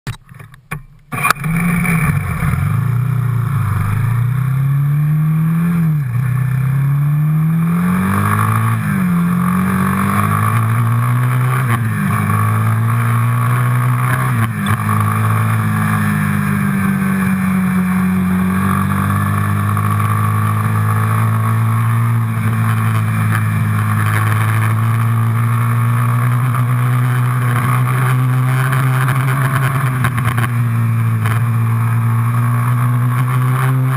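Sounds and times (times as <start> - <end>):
quad bike engine accelerating: 1.1 - 33.9.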